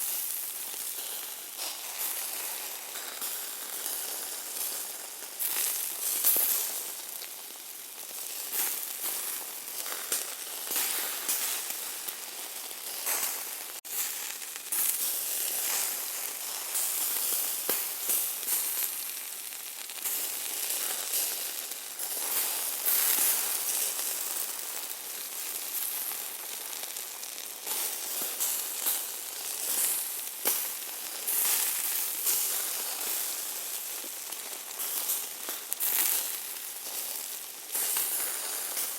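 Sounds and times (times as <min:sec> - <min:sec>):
meat sizzling: 0:00.0 - 0:38.9.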